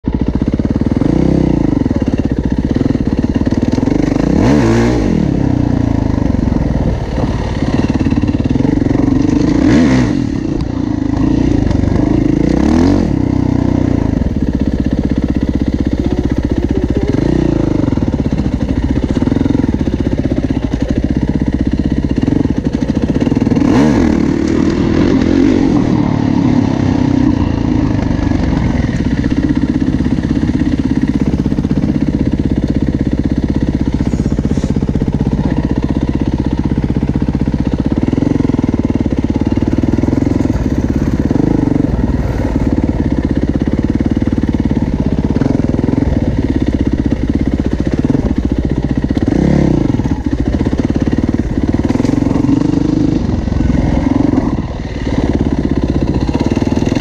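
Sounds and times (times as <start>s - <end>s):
dirt bike engine revving: 0.1s - 57.0s.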